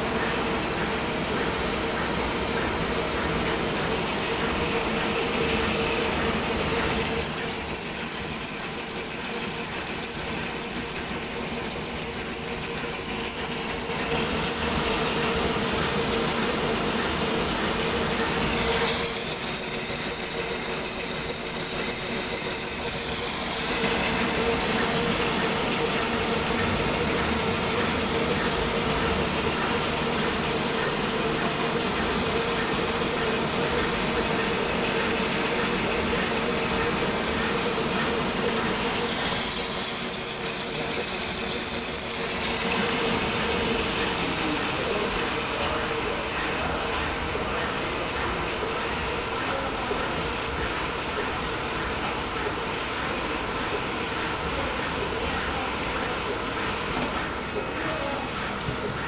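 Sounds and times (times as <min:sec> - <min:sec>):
slitting machine humming: 0:00.0 - 0:59.0.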